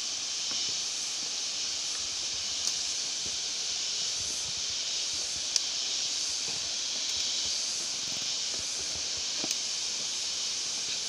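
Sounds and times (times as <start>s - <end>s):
forest ambience hiss: 0.0s - 11.0s.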